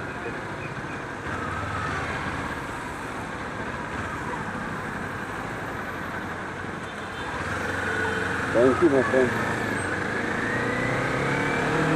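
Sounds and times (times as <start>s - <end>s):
road noise: 0.0s - 11.9s
surrounding traffic: 0.0s - 11.9s.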